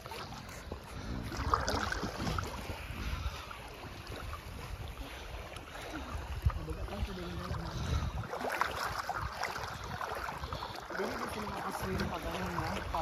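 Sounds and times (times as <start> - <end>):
sea water sloshing and splashing: 0.0 - 13.0
wind rumbling on microphone: 0.0 - 13.0.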